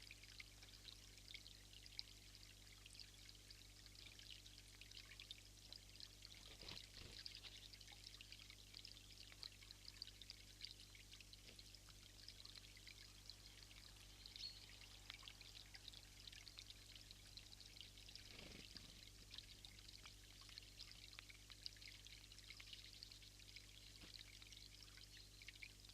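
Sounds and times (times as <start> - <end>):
low steady hum: 0.0 - 25.9
trickle of running water: 0.0 - 25.9.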